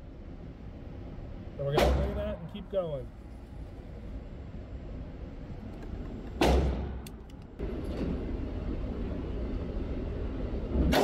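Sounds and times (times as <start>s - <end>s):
steady noisy rumble: 0.0s - 11.0s.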